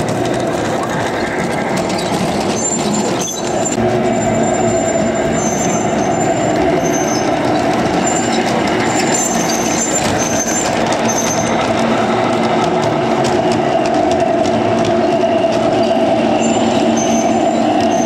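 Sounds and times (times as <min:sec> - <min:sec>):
wheels rumbling over rails: 0:00.0 - 0:18.0
high-pitched squeaks: 0:00.8 - 0:12.1, 0:14.8 - 0:18.0.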